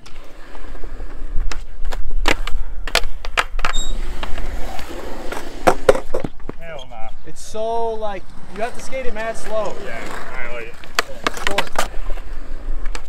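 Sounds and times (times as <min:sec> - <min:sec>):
skateboard clacks: 0:00.0 - 0:06.6, 0:08.5 - 0:13.0
skateboard wheels rolling on concrete: 0:00.0 - 0:13.0.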